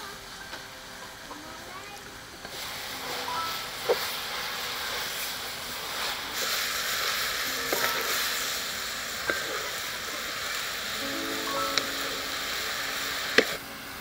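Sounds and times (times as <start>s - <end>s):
noodles sizzling in a wok: 0.0s - 14.0s.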